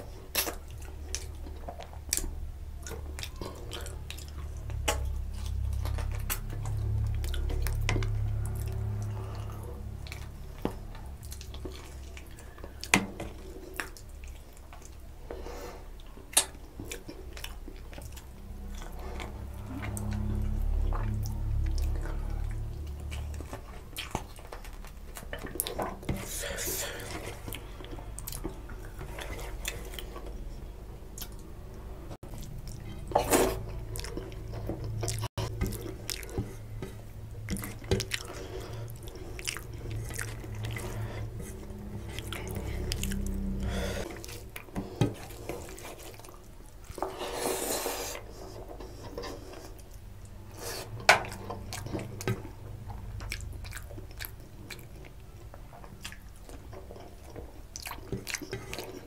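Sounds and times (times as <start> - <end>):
chewing and mouth smacks: 0.0 - 59.0.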